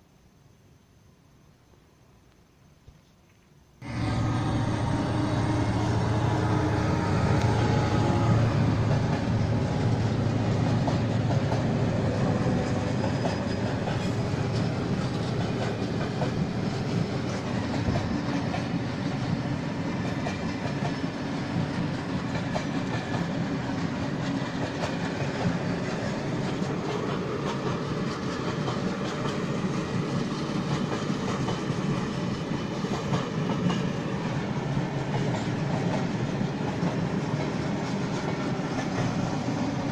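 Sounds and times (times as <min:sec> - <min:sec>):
freight train rumbling past: 0:03.8 - 0:39.9
wheels clattering on rails: 0:03.8 - 0:39.9.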